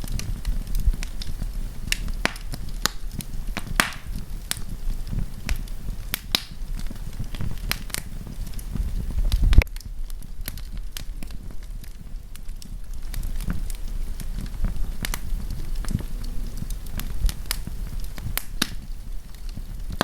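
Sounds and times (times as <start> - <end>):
low rumble: 0.0 - 20.0
wood campfire crackling: 0.0 - 20.0.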